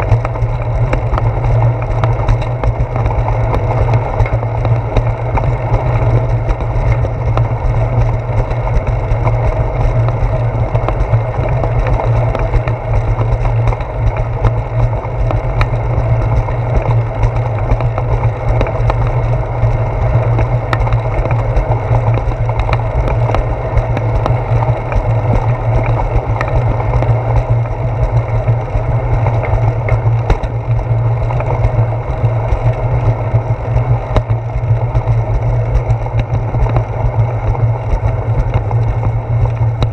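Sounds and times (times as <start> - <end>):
bicycle rolling over concrete: 0.0 - 39.9.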